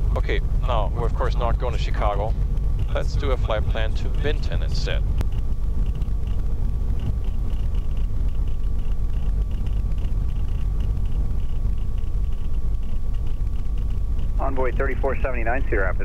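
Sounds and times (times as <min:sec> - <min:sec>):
aircraft piston engine rumble: 0:00.0 - 0:16.0
faint high whine: 0:00.0 - 0:16.0.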